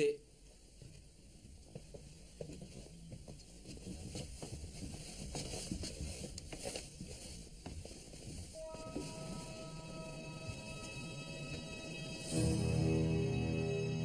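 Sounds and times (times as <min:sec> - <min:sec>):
footsteps and shuffling: 0:00.3 - 0:12.5.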